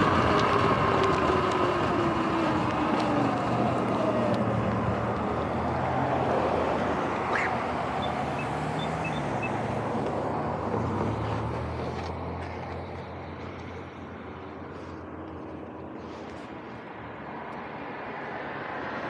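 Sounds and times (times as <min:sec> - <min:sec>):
pickup truck passing: 0:00.0 - 0:19.0
road traffic: 0:00.0 - 0:19.0.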